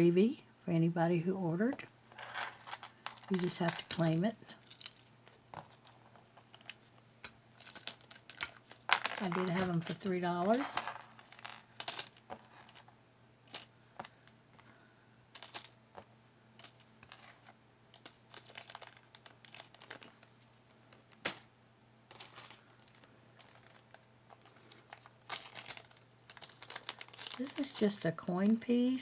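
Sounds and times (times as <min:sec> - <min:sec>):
faint steady hum: 0:00.0 - 0:29.0
jewelry clicking and crinkling: 0:01.6 - 0:29.0.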